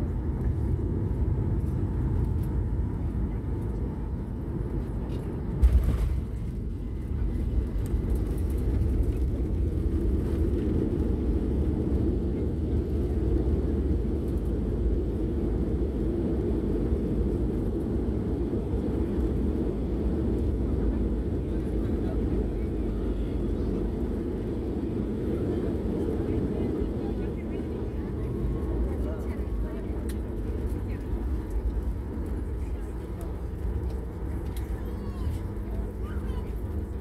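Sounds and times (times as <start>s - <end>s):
low rumble of jet engines: 0.0s - 37.0s.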